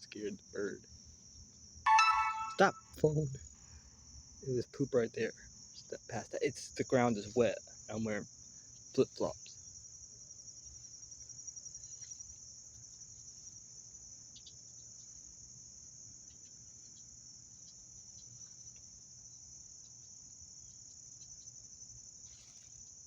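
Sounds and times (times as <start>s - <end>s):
shrill insect chorus: 3.7s - 23.0s.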